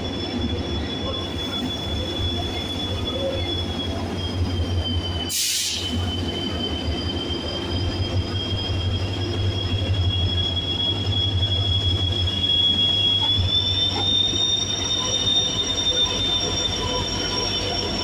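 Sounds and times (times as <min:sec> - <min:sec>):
diesel locomotive rumbling: 0:00.0 - 0:18.0
high-pitched squeal: 0:00.0 - 0:18.0.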